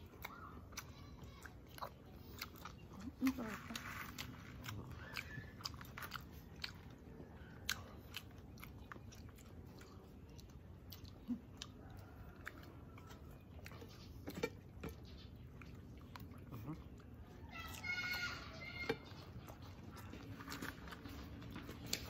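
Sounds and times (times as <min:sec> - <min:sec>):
person chewing: 0:00.0 - 0:22.0.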